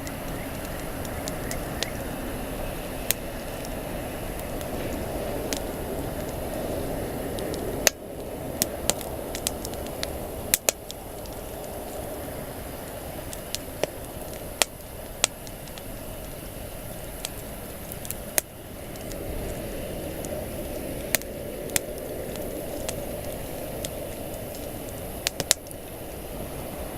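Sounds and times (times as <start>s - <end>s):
campfire pops and snaps: 0.0s - 26.9s
steady rushing noise: 0.0s - 26.9s.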